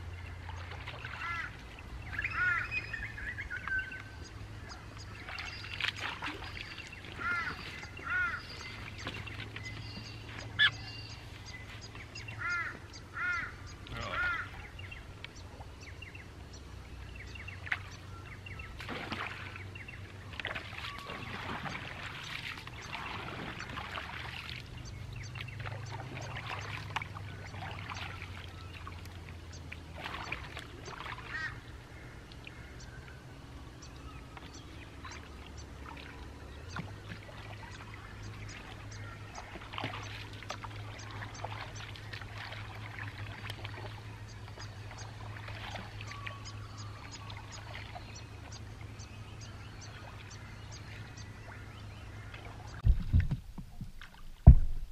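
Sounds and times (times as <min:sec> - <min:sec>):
paddle strokes splashing in water: 0:00.0 - 0:16.2, 0:17.1 - 0:32.7, 0:33.9 - 0:54.9
bird calls: 0:00.3 - 0:52.8.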